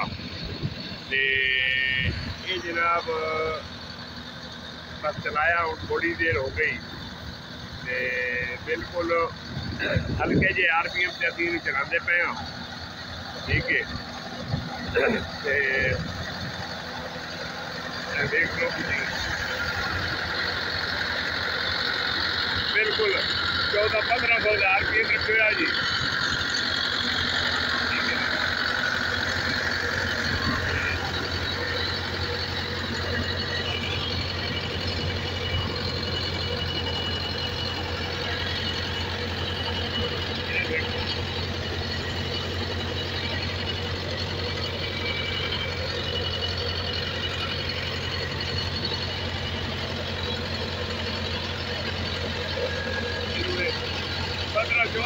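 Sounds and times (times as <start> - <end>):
threshing machine running: 0.0 - 55.0
tractor diesel engine running: 0.0 - 55.0.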